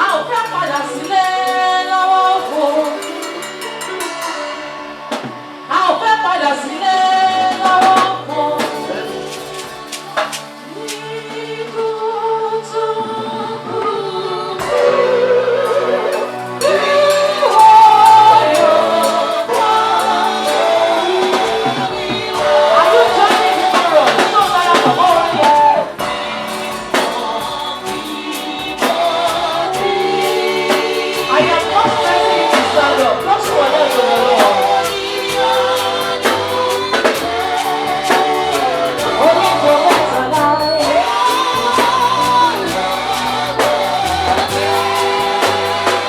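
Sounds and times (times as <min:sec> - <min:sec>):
gospel band music: 0:00.0 - 0:46.0
voices singing together: 0:00.0 - 0:46.0.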